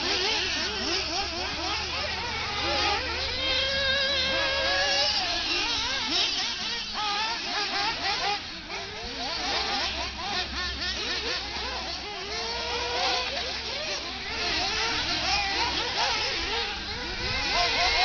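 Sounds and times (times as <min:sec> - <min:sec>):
radio-controlled buggy motors whining: 0:00.0 - 0:18.0.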